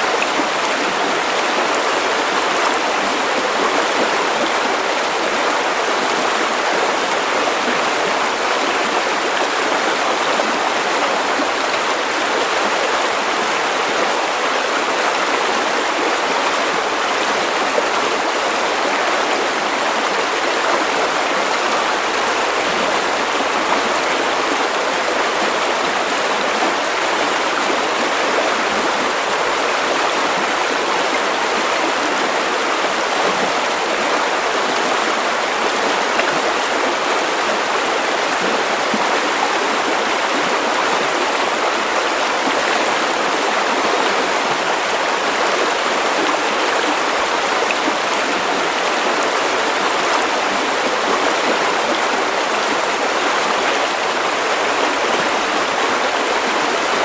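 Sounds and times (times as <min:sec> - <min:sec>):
river water over stones: 0:00.0 - 0:57.0.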